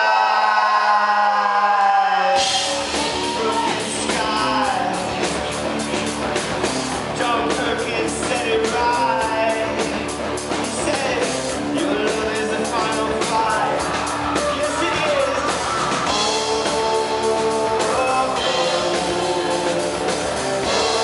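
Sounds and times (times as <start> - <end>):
lead singer singing: 0.0 - 6.2, 7.1 - 21.0
drum beat: 2.4 - 21.0
electric guitar: 2.4 - 21.0.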